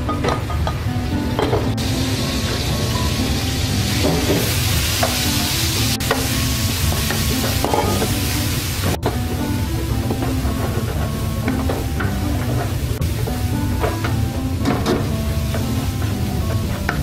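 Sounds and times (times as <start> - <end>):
chilli and garlic sizzling in oil: 0.4 - 17.0.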